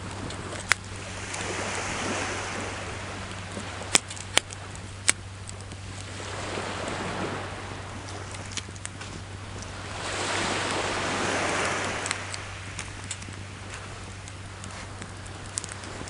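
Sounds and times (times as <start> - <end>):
ocean waves washing on shore: 0.0 - 16.0
wood fire crackling and popping: 0.0 - 16.0.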